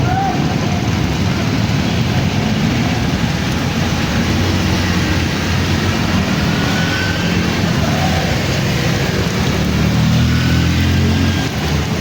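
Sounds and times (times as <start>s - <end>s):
street traffic rumble and hiss: 0.0s - 12.0s.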